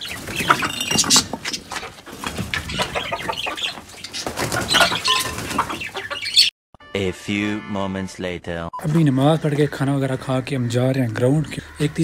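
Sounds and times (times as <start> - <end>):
chickens clucking: 0.0 - 6.5, 8.8 - 12.0.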